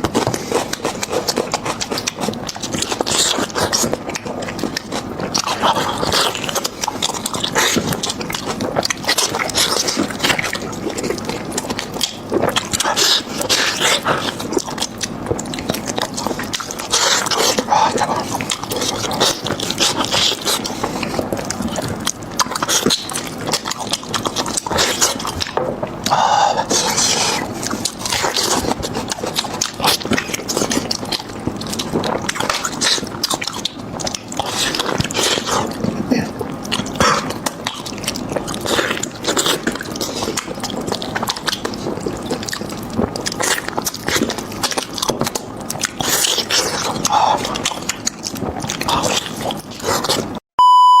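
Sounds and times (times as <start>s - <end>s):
wet chewing and lip-smacking: 0.0s - 50.4s.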